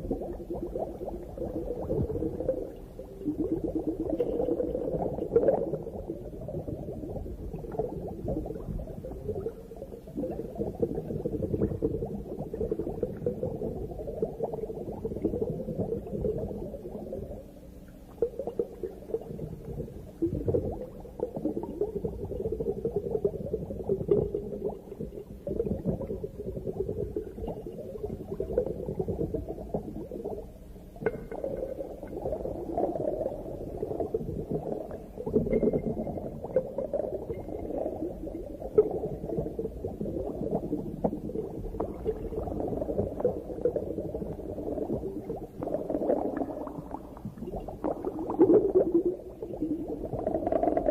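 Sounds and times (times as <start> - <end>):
muffled underwater bubbling: 0.0 - 50.9.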